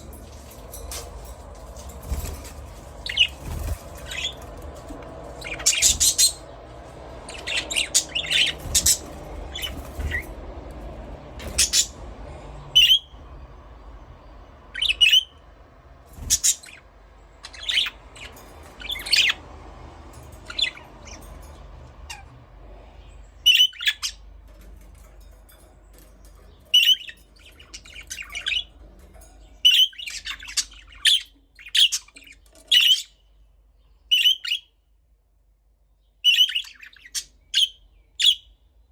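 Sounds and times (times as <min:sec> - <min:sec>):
budgerigars chirping and squawking: 0:00.0 - 0:10.4, 0:11.4 - 0:13.2, 0:14.7 - 0:15.4, 0:16.1 - 0:33.3, 0:34.1 - 0:34.7, 0:36.2 - 0:38.5.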